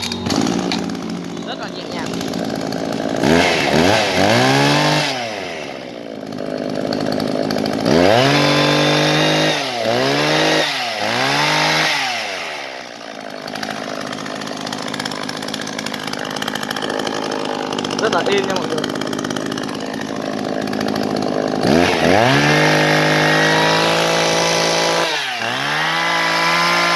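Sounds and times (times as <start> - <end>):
chainsaw idling: 0.0 - 26.9
chainsaw revving: 0.0 - 26.9.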